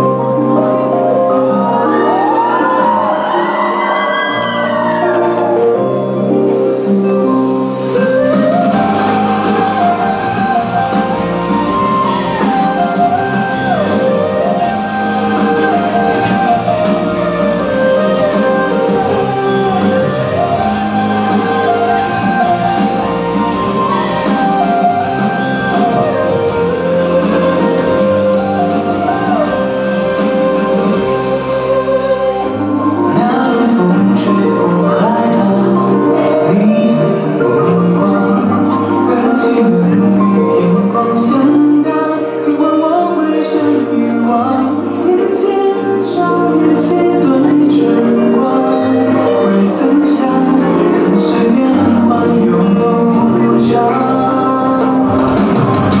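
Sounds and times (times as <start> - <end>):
sliding held melody: 0.0 - 56.0
song with slow bass line: 0.0 - 56.0
steady musical accompaniment: 0.0 - 56.0.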